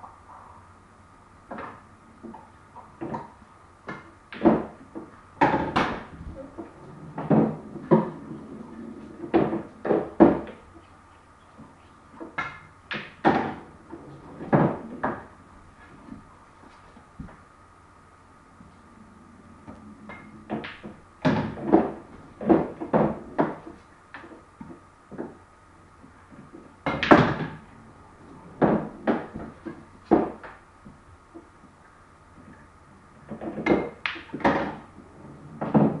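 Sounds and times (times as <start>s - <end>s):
pool balls clacking: 1.5s - 10.9s, 11.6s - 17.4s, 19.6s - 31.8s, 32.4s - 36.0s.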